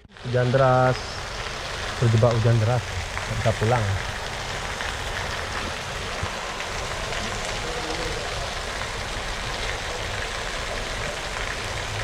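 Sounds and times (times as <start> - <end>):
heavy rain on a roof: 0.0 - 12.0
water streaming off roof edge: 0.0 - 12.0.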